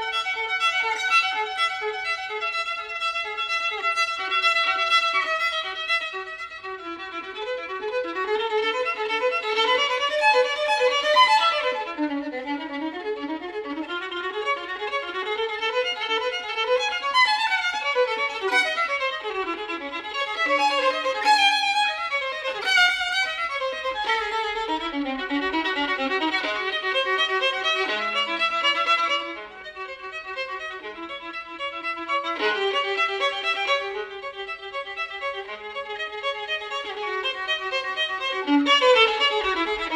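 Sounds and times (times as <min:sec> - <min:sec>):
violin melody: 0:00.0 - 0:39.9.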